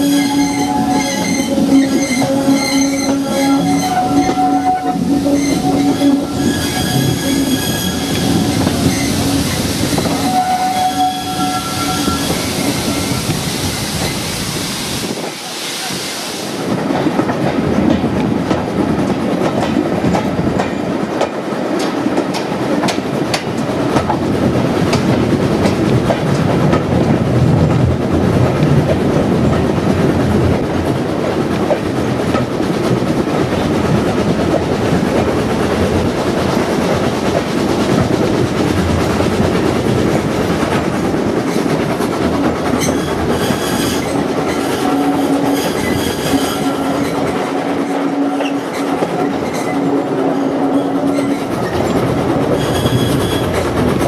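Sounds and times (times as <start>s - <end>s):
steam locomotive working hard: 0.0s - 54.0s.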